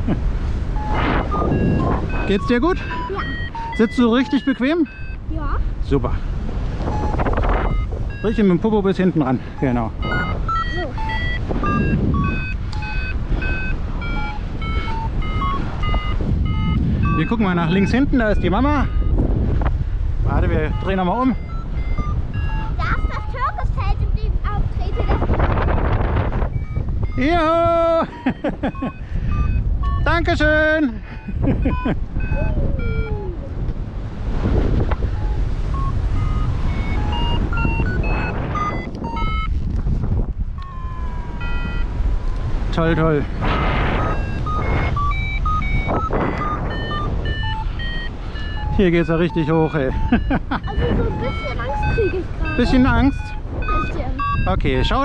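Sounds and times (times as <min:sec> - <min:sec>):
wind rumble on microphone: 0:00.0 - 0:55.0
variometer beeping: 0:00.1 - 0:05.6, 0:06.7 - 0:19.4, 0:20.2 - 0:33.8, 0:34.5 - 0:39.8, 0:40.5 - 0:55.0.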